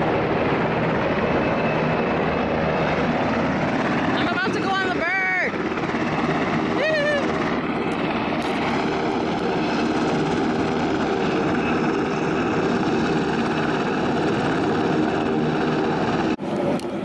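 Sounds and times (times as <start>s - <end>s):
helicopter turbine and rotor: 0.0s - 17.0s.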